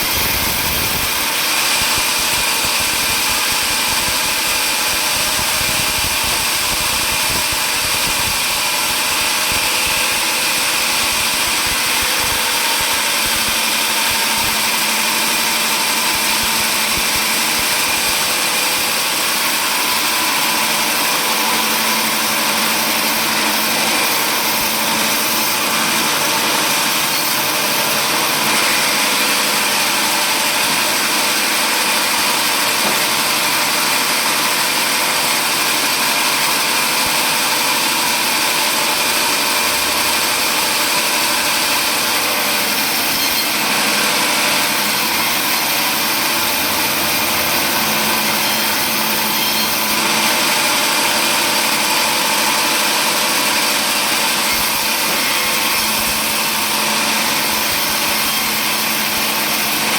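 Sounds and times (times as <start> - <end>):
power saw cutting wood: 0.0 - 59.9.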